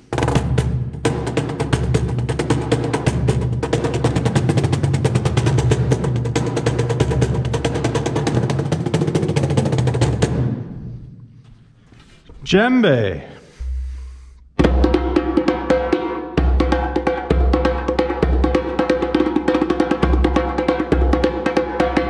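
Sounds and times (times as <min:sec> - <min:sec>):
cajon drum played by hand: 0:00.1 - 0:10.5, 0:14.6 - 0:22.0.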